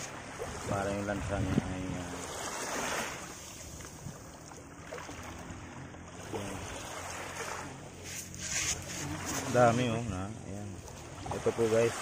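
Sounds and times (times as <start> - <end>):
rush of water: 0.0 - 12.0
small waves washing on sand: 0.0 - 12.0.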